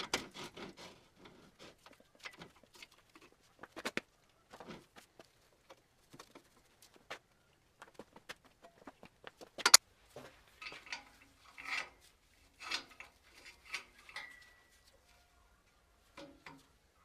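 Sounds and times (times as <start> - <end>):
hard parts clicking and scraping: 0.0 - 7.2, 7.8 - 15.2, 16.0 - 16.9.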